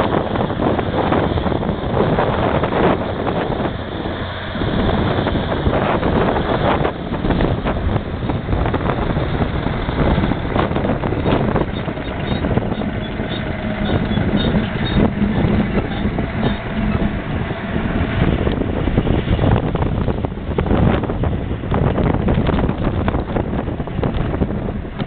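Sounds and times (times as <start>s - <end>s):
tractor diesel engine running: 0.0s - 25.0s
wind buffeting microphone: 0.0s - 25.0s.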